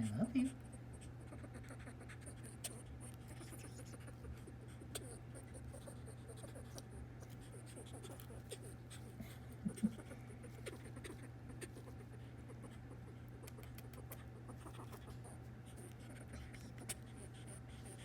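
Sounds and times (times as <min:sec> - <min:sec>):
squirrel scratching: 0:00.0 - 0:18.0.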